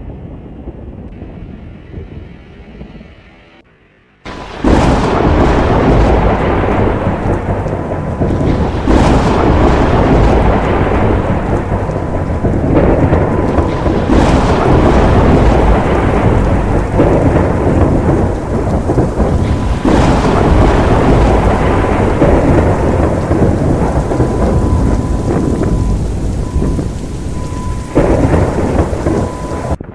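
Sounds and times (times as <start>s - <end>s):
thunder rumbling: 0.0s - 29.9s
heavy rain pouring: 4.3s - 29.9s.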